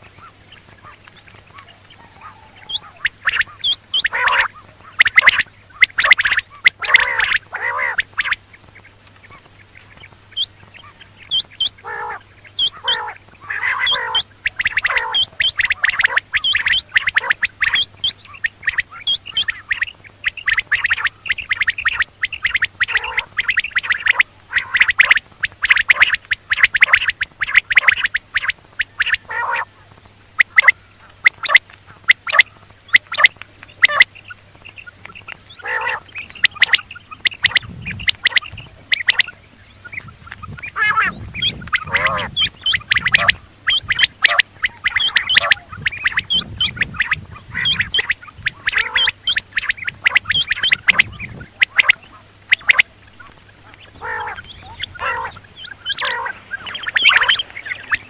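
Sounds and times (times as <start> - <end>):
faint low hum: 0.0 - 58.0
quail calling: 0.0 - 58.0.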